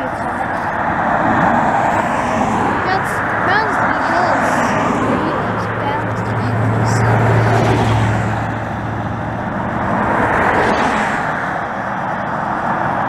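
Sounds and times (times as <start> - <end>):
steady traffic rushing: 0.0 - 13.0
car passing by: 0.6 - 13.0.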